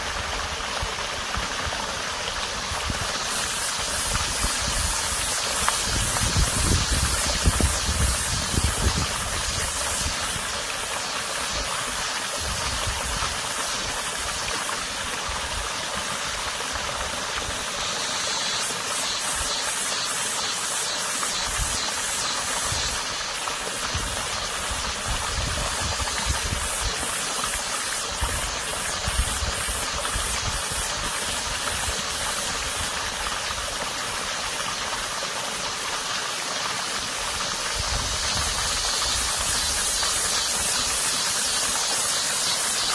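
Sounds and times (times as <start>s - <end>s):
stream water rushing: 0.0s - 42.9s
cicada pulsing call: 2.5s - 42.9s.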